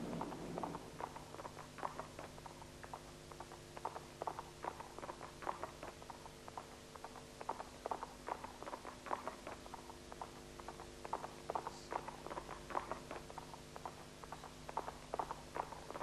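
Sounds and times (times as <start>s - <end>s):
faint steady hum: 0.0s - 16.0s
galloping hoofbeats: 0.0s - 16.0s.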